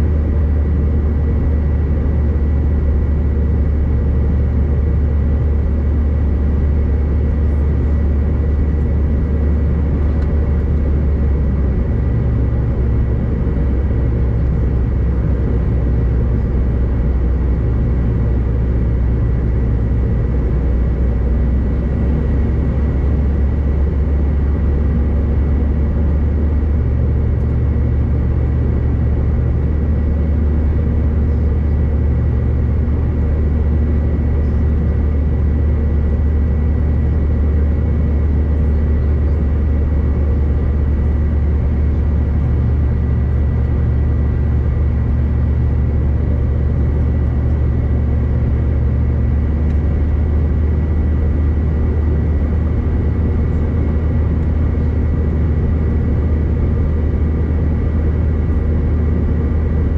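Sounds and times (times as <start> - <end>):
jet cabin engine rumble: 0.0 - 59.9.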